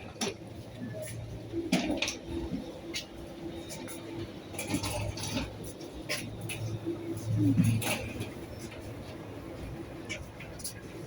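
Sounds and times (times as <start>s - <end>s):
faint murmur of voices: 0.0s - 11.0s.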